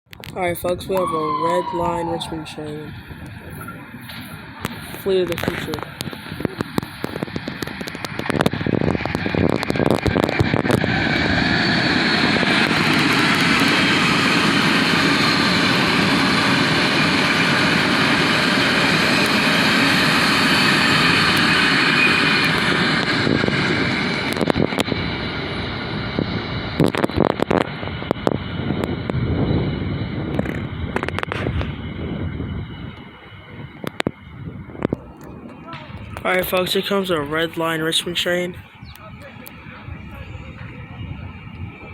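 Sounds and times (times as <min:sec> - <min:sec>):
train passing on track: 0:00.1 - 0:41.9.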